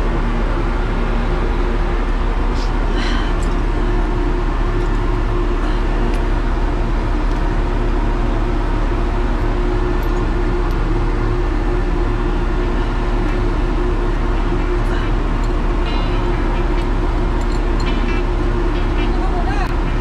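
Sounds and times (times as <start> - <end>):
ship machinery drone: 0.0 - 20.0.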